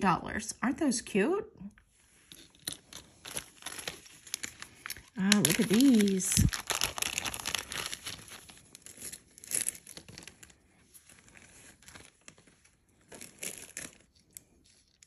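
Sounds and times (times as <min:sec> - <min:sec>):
packaging crinkling: 0:02.2 - 0:15.0.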